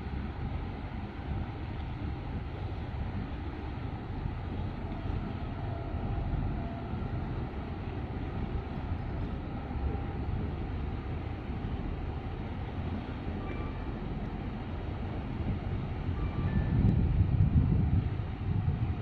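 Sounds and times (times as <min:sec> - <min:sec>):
ship rumbling past: 0:00.0 - 0:19.0
wind buffeting microphone: 0:00.0 - 0:19.0.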